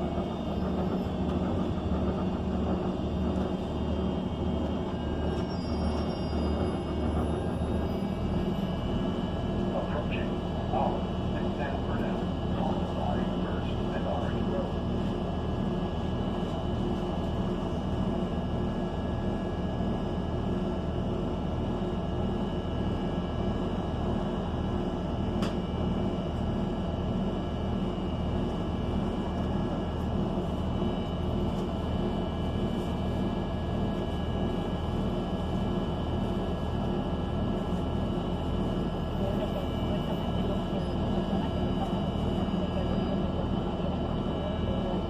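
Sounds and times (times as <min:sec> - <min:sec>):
bus engine low rumble: 0:00.0 - 0:45.0.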